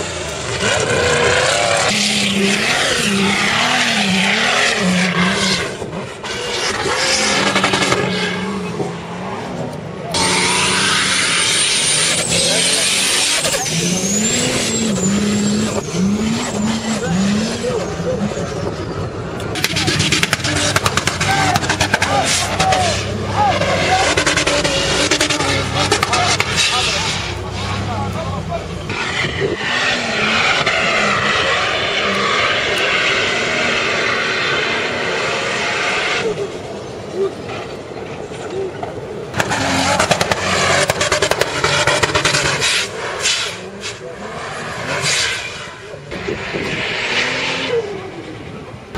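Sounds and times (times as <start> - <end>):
off-road engines revving: 0.0 - 48.9.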